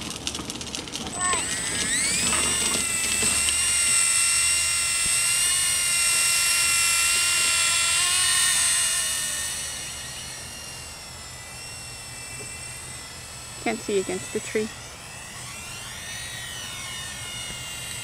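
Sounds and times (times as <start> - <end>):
small helicopter motor whine: 0.0 - 18.0.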